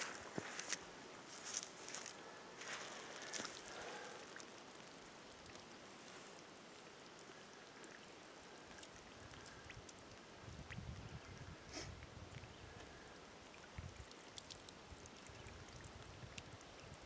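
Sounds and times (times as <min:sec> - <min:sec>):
pond water trickling and dripping: 0:00.0 - 0:17.0.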